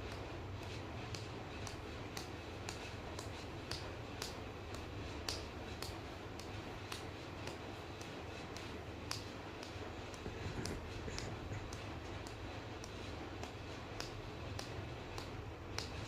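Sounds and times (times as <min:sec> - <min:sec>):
regular ticking: 0:00.0 - 0:16.0
steady low hum: 0:00.0 - 0:16.0.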